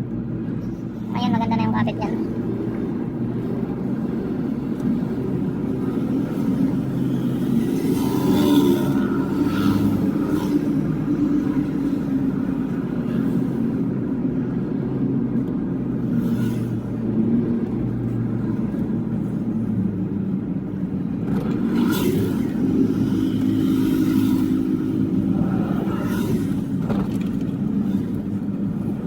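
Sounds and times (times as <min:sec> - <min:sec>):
road noise inside car: 0:00.0 - 0:29.0.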